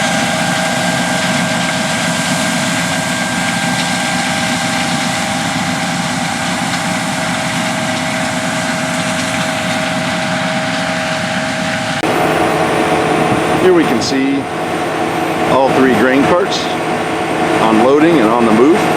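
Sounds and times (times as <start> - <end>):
harvest machinery engines: 0.0 - 18.9
steady mechanical whine: 0.0 - 18.9.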